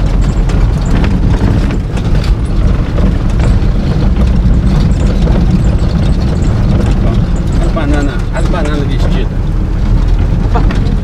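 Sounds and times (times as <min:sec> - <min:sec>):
engine and tyre rumble: 0:00.0 - 0:11.0
knocks and rattles: 0:00.0 - 0:11.0.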